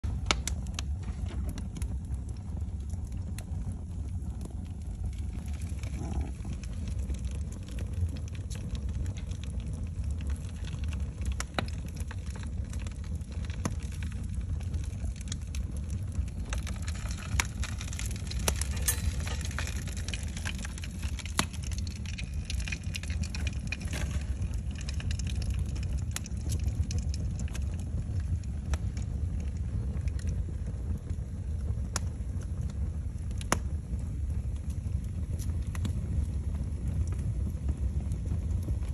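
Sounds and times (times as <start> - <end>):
fire crackling and popping: 0.0 - 38.9
low rumble: 0.0 - 38.9.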